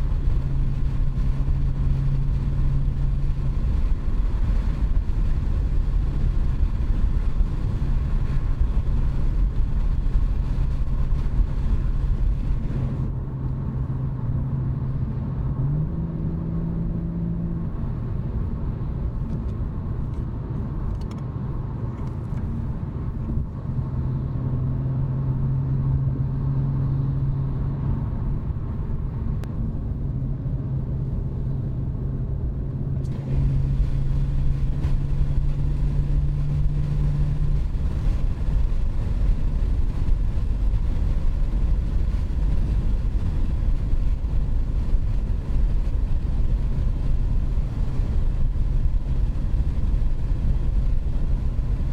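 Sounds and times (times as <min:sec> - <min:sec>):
car exhaust drone: 0:00.0 - 0:51.9
road rumble: 0:00.0 - 0:51.9.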